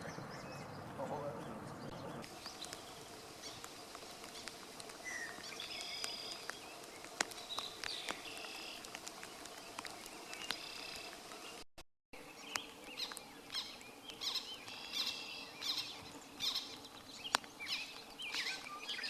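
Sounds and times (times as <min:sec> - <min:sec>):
birds singing: 0:00.0 - 0:11.6, 0:12.2 - 0:19.0
outdoor background hiss: 0:00.0 - 0:11.6, 0:12.2 - 0:19.0.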